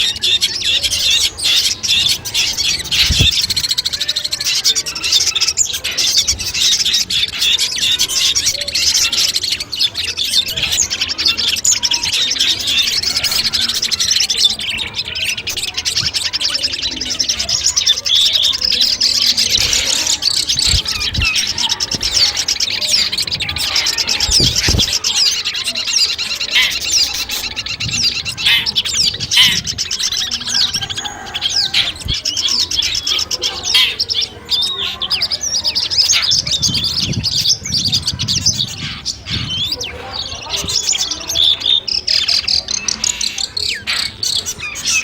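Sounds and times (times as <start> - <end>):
shrike singing rapid chirps: 0.0 - 45.0.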